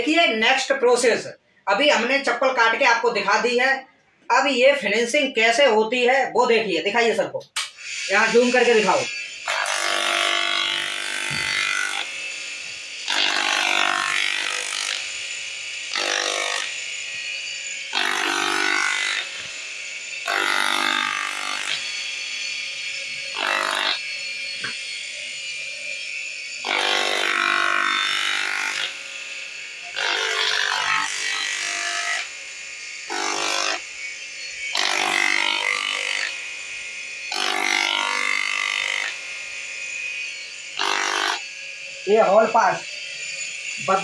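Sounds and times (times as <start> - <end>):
sanding drum motor running: 7.9 - 44.0.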